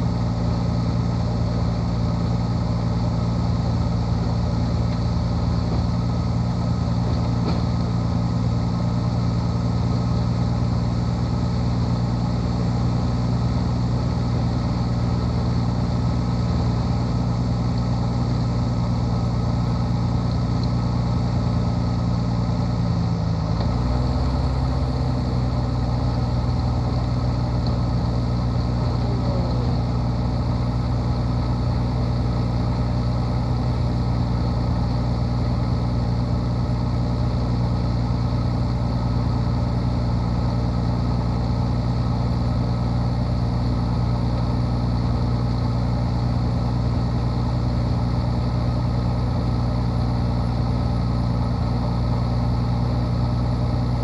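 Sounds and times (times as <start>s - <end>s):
plane piston engine and propeller: 0.0s - 54.0s.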